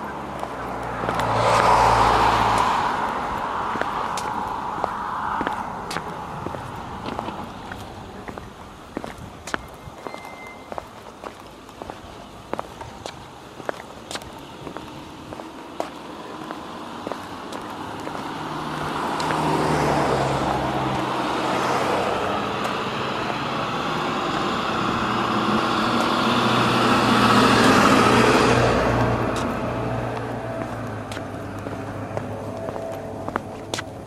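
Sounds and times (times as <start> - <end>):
footsteps on concrete: 0.0 - 23.6, 24.9 - 34.0
road traffic passing: 0.0 - 34.0.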